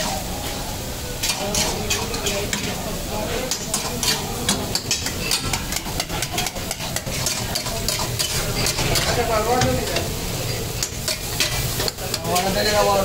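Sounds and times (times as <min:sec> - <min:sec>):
meat sizzling in a wok: 0:00.0 - 0:13.0
metal spatula scraping pan: 0:01.2 - 0:12.9.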